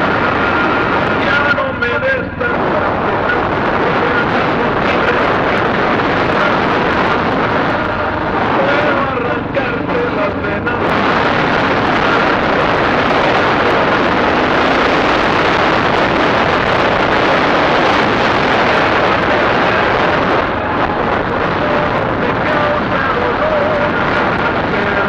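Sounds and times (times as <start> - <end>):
dirt bike riding noise: 0.0 - 25.0
wind rushing: 0.0 - 25.0.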